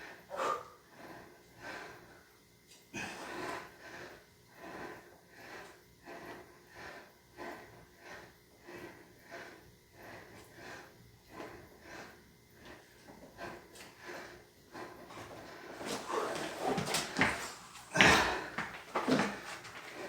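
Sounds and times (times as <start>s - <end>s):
man breathing hard: 0.0s - 2.2s, 3.0s - 20.0s.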